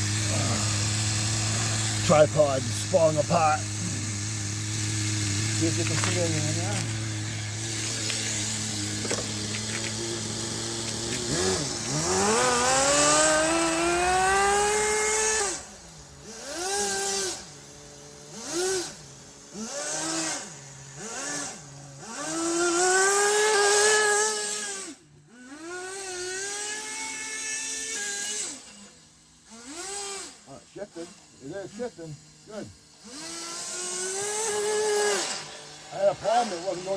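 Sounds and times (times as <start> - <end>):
small nitro engine revving: 0.0 - 36.9.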